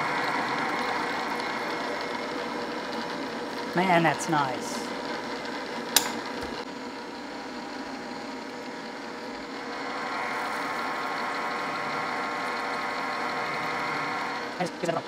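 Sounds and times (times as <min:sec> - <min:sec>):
drill press motor hum: 0:00.0 - 0:15.0.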